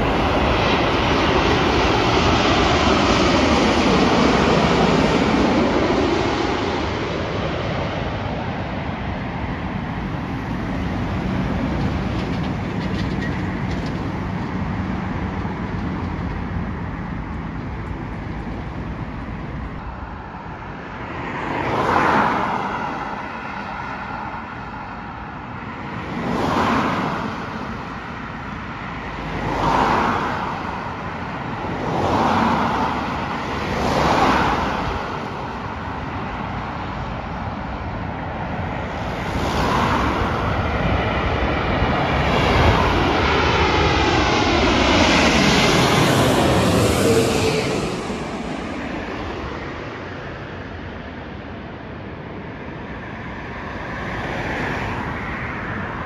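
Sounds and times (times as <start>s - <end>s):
jet airliner flying low overhead: 0.0s - 56.0s
road vehicles passing: 0.0s - 56.0s.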